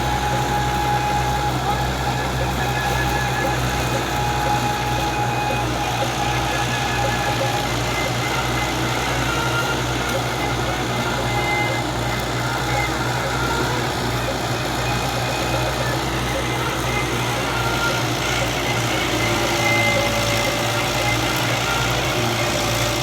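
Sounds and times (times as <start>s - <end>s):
thin steady whine: 0.0s - 23.0s
tractor engine humming: 0.0s - 23.0s.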